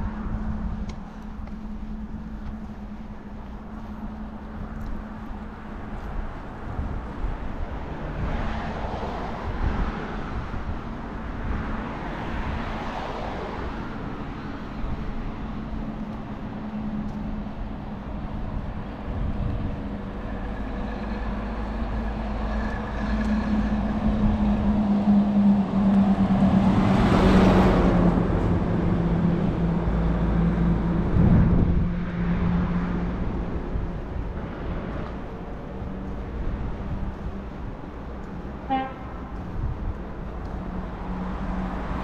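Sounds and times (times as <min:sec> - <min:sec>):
traffic noise: 0:00.0 - 0:42.0
vehicle passing by: 0:00.0 - 0:42.0.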